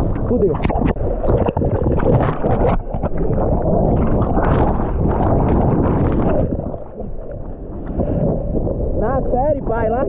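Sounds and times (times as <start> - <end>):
muffled underwater surf rush: 0.0 - 10.0.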